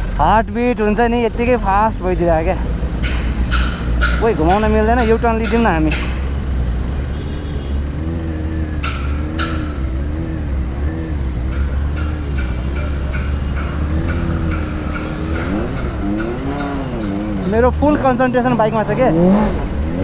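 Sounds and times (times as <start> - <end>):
motorcycle engine running: 0.0 - 20.0
sharp clicks: 2.7 - 7.2, 7.9 - 20.0.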